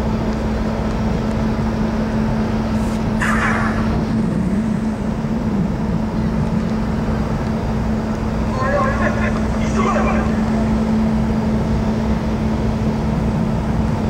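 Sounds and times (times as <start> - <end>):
ship engines droning: 0.0 - 14.0.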